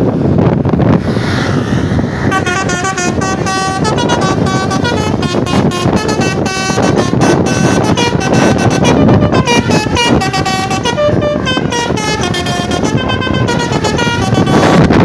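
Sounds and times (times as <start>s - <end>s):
traffic noise: 0.0s - 15.0s
wind: 0.0s - 15.0s
musical air horn melody: 2.3s - 15.0s.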